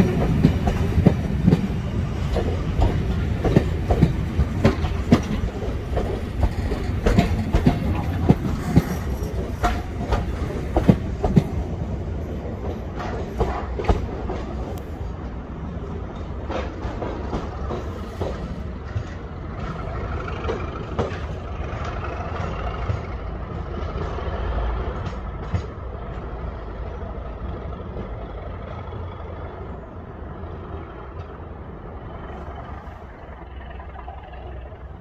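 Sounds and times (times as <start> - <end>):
diesel locomotive rumbling: 0.0 - 35.0
wheels clicking over rail joints: 0.0 - 35.0.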